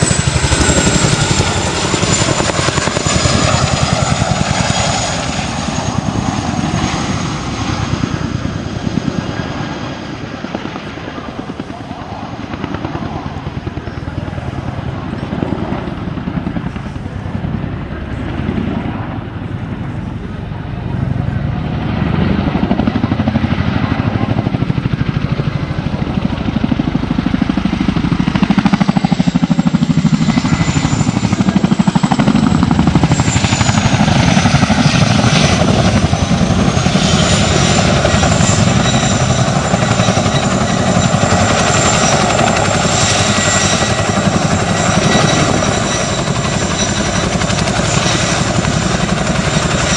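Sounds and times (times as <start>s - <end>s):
helicopter flying by: 0.0s - 49.9s.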